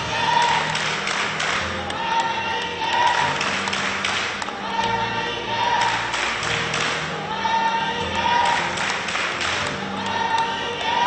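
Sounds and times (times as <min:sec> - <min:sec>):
background music with singing: 0:00.0 - 0:11.0.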